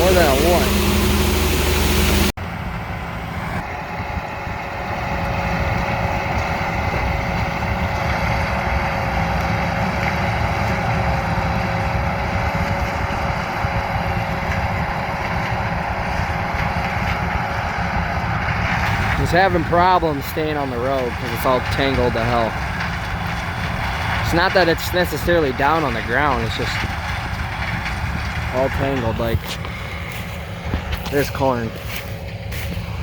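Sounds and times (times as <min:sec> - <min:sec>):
combine harvester drone: 0:00.0 - 0:33.0
whining tones: 0:00.0 - 0:33.0.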